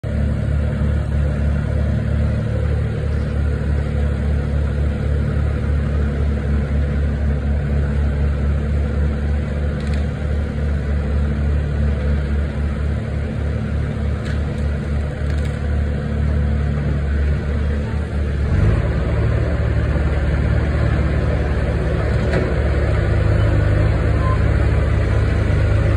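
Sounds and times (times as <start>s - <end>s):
heavy engine idling: 0.0s - 25.9s.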